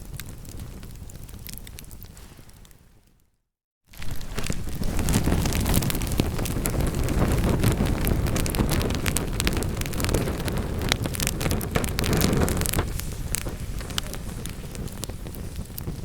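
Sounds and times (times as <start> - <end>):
low rumble of flames: 0.0 - 3.2, 3.9 - 16.0
wood fire crackling and popping: 0.0 - 3.2, 3.9 - 16.0.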